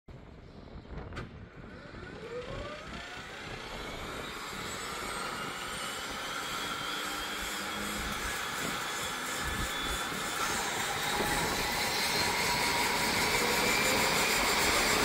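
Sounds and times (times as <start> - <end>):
turboprop turbine whine: 0.1 - 15.0.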